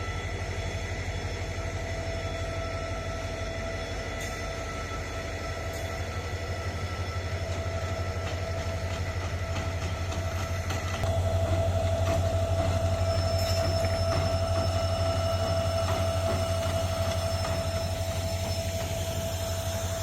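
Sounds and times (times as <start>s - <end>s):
rail vehicle engine drone: 0.0s - 20.0s.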